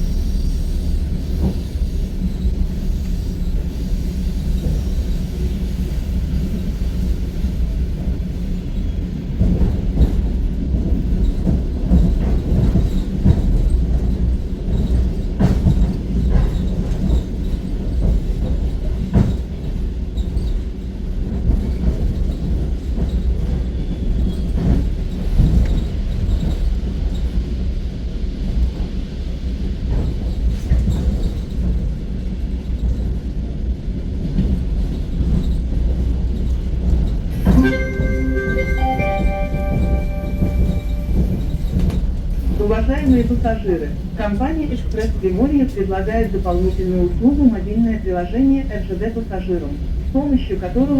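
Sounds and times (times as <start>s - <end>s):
train rumble inside carriage: 0.0s - 50.9s.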